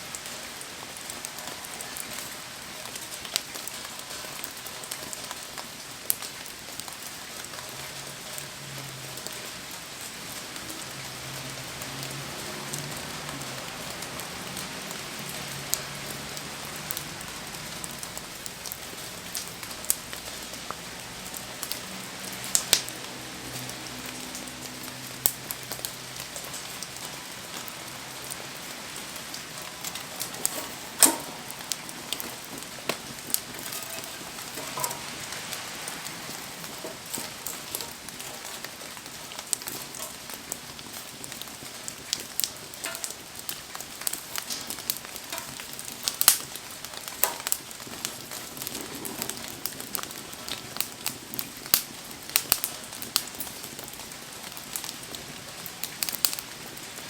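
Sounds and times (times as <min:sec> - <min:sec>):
bonfire crackling and popping: 0:00.0 - 0:57.0
rain hiss: 0:00.0 - 0:57.0.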